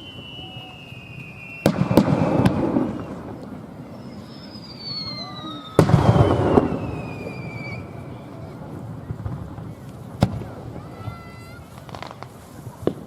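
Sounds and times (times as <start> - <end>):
falling firework whistles: 0.0 - 13.0
fireworks bangs with rumbling echo: 0.0 - 13.0.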